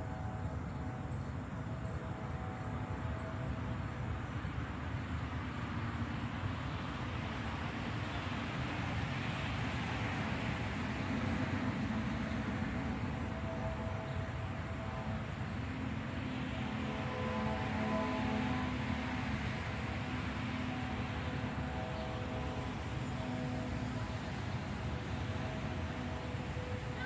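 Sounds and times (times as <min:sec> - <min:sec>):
distant traffic rumble: 0:00.0 - 0:27.0.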